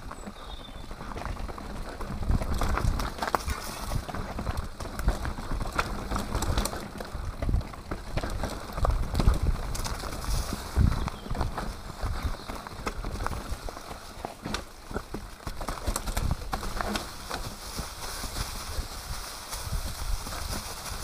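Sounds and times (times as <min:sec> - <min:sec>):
bike tyres rolling over stones: 0:00.0 - 0:21.0
bike frame and chain rattling: 0:01.0 - 0:21.0.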